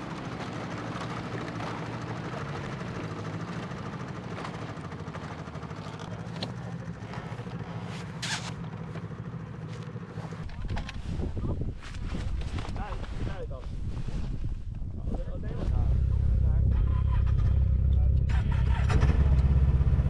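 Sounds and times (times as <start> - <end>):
snowmobile engines running: 0.0 - 20.0.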